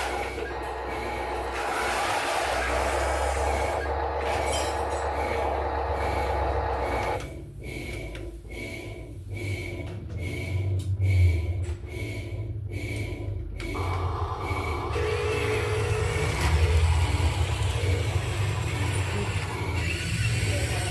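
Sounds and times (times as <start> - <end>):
heavy machinery rumbling: 0.0 - 20.9.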